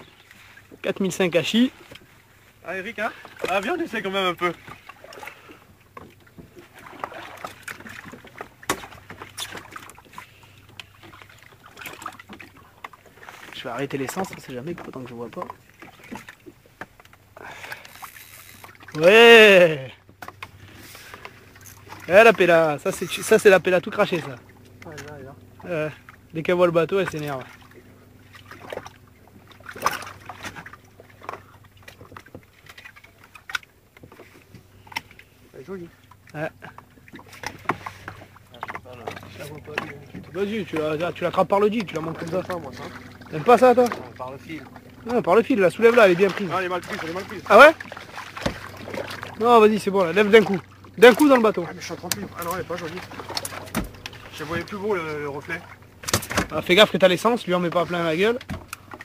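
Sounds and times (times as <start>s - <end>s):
boat engine idling: 0.0s - 59.0s
water washing against hull: 0.0s - 59.0s.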